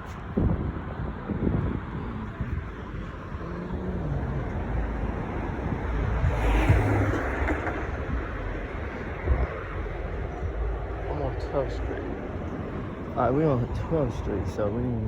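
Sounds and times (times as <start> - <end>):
car engine and tyre rumble: 0.0 - 15.0
road rushing noise: 0.0 - 15.0.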